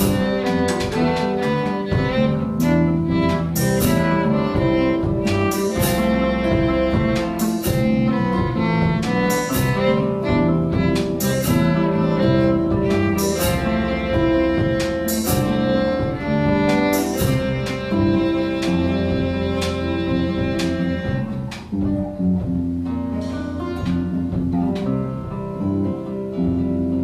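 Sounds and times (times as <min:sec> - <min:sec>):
drum kit with cymbal hits: 0:00.0 - 0:26.4
acoustic guitar: 0:00.0 - 0:27.0
walking electric bass: 0:00.0 - 0:27.0.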